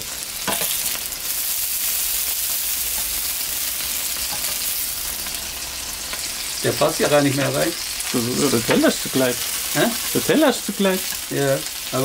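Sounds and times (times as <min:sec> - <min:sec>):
food sizzling on a grill: 0:00.0 - 0:12.0.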